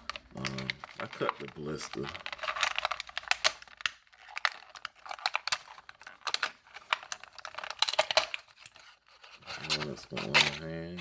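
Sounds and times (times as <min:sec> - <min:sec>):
plastic blister pack crackling: 0:00.0 - 0:11.0.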